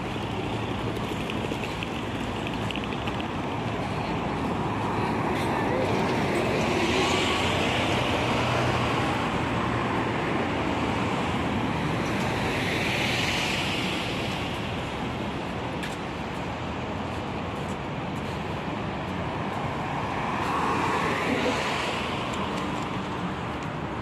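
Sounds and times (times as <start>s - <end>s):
street traffic: 0.0s - 24.0s
wind: 0.0s - 24.0s.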